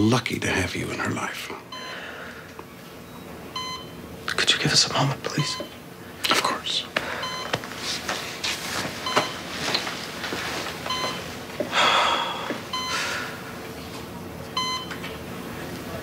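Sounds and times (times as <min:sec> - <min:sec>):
patient monitor beeping: 0:01.7 - 0:08.0, 0:08.8 - 0:15.3.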